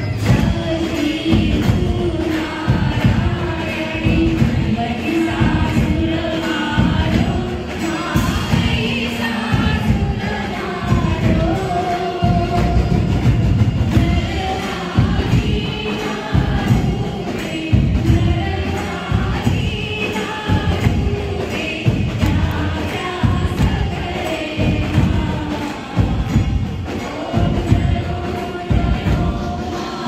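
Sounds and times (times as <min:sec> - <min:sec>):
amplified drums steady beat: 0:00.0 - 0:30.0
many voices singing devotional song: 0:00.0 - 0:30.0.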